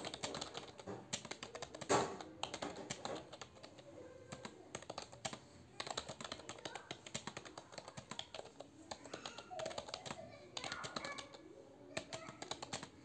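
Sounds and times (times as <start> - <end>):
computer keyboard typing: 0.0 - 11.4, 12.0 - 13.0.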